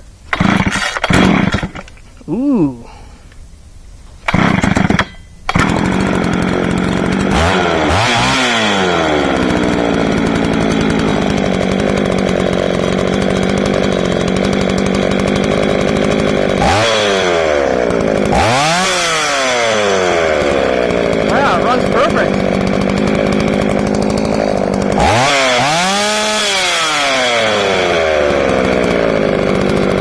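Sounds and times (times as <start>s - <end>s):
chainsaw starting and revving: 0.3s - 2.1s, 4.3s - 30.0s.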